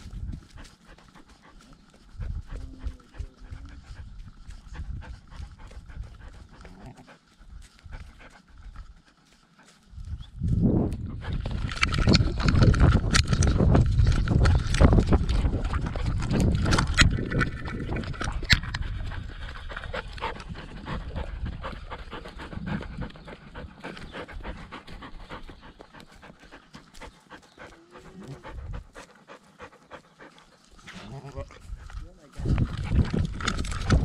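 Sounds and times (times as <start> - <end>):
dog panting: 0.0 - 30.8.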